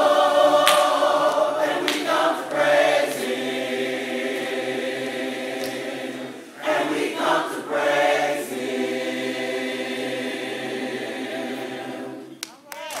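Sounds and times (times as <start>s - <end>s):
church choir singing: 0.0s - 12.4s.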